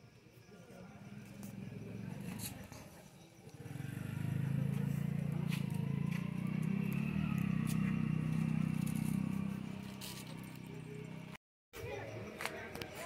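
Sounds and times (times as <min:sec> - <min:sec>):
engine rumbling: 0:00.9 - 0:11.4.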